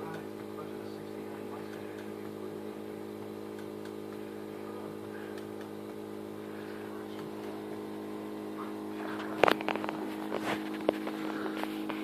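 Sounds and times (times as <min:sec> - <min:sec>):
steady compressor hum: 0:00.0 - 0:12.0.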